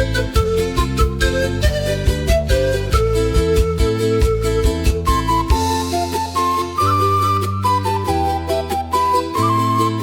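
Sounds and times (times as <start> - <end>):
flute playing slow melody: 0.0 - 10.0.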